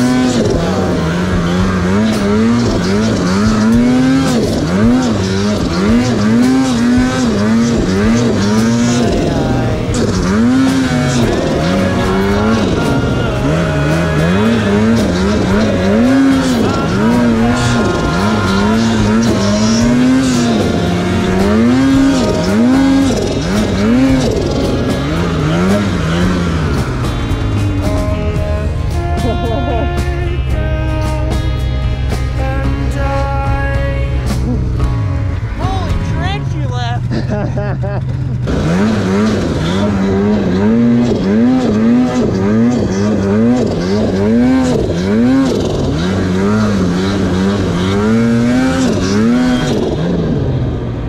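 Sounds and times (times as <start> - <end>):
snowmobile engine revving: 0.0 - 51.0.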